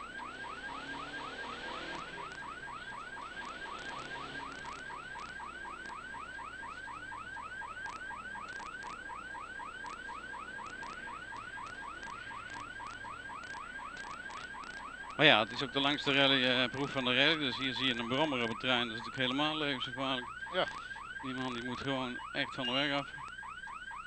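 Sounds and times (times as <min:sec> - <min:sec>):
electronic siren yelping: 0:00.0 - 0:24.0
faint road noise: 0:00.0 - 0:24.0.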